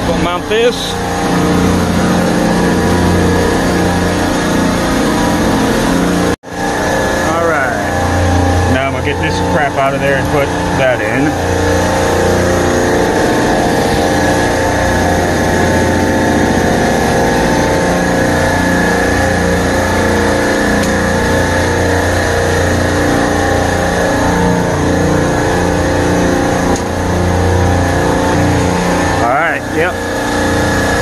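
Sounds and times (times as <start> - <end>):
refrigeration compressors droning: 0.0 - 31.0
whining tones: 0.0 - 31.0.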